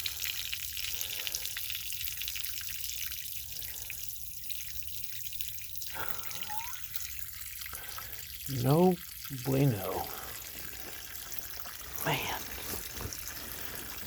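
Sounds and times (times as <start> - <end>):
water splashing and dripping: 0.0 - 14.0.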